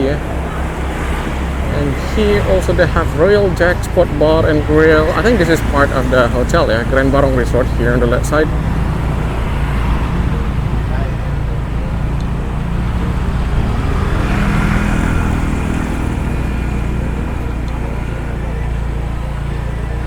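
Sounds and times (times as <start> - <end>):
road noise: 0.0 - 20.0
vehicle engine humming: 0.0 - 20.0.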